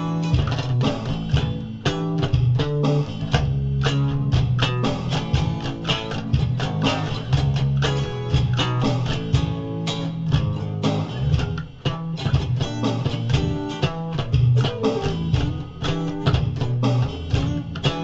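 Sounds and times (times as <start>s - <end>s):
bass guitar line: 0.0s - 18.0s
drum machine beat: 0.0s - 18.0s
rhythm guitar chords: 0.0s - 18.0s.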